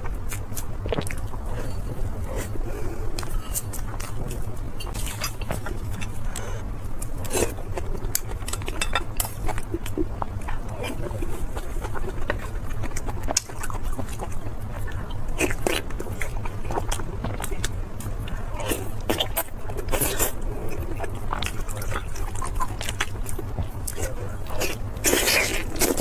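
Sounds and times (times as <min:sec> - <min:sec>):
chewing and crunching: 0:00.0 - 0:26.0
steady low hum: 0:00.0 - 0:26.0.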